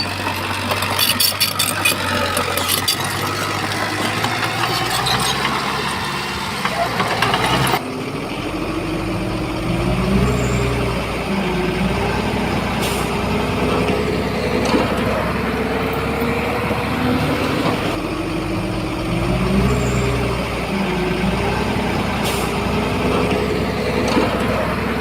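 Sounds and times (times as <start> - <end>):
heavy diesel engine revving: 0.0 - 25.0.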